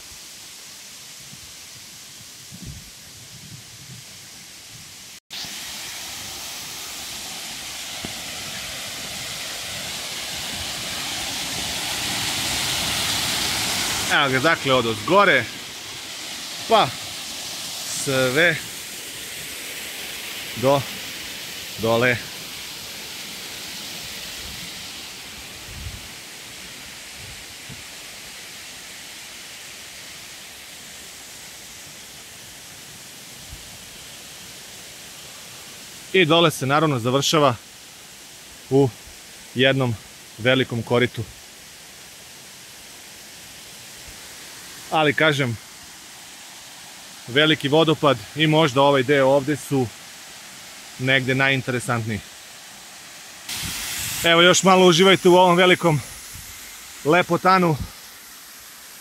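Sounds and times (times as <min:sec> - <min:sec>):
water rushing over rocks: 0:05.0 - 0:37.7, 0:38.6 - 0:59.0.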